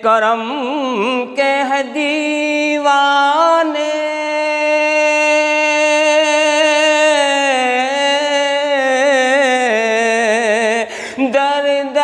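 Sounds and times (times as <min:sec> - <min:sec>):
man singing a long held note: 0:00.0 - 0:12.0.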